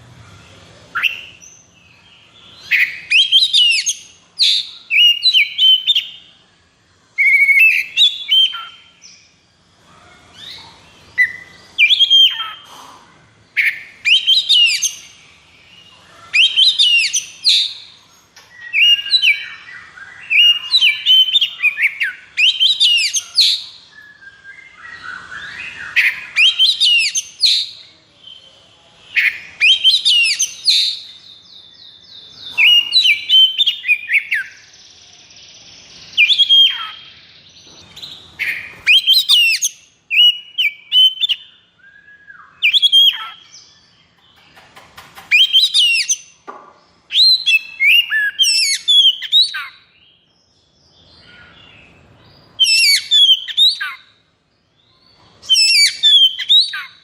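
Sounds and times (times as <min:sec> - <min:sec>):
bird singing whistles and trills: 0:00.9 - 0:06.4, 0:07.1 - 0:09.4, 0:10.3 - 0:12.6, 0:13.5 - 0:44.4, 0:45.2 - 0:46.4, 0:47.0 - 0:54.2, 0:54.8 - 0:57.0.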